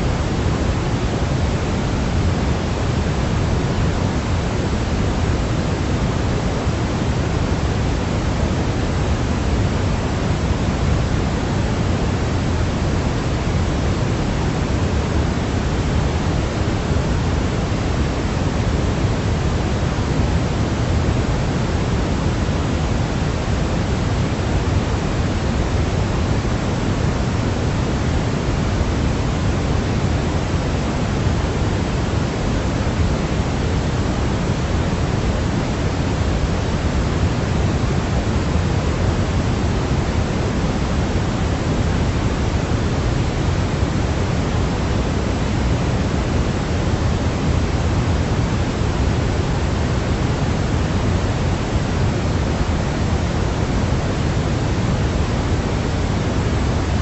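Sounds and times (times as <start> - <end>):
steady pink noise: 0.0 - 57.0.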